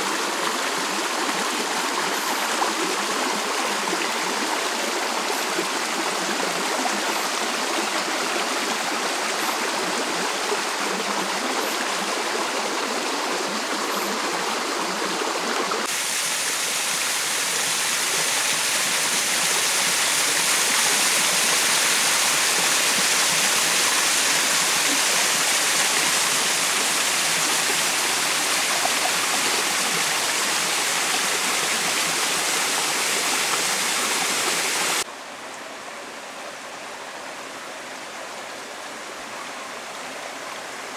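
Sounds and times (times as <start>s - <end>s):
running water: 0.0s - 35.1s
small waterfall splashing over rocks: 0.0s - 35.1s.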